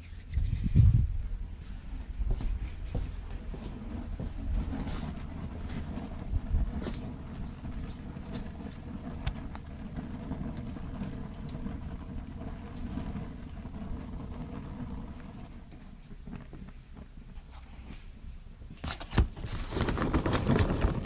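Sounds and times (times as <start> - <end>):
fire crackling and popping: 0.0 - 21.0
fire rumbling: 0.2 - 21.0.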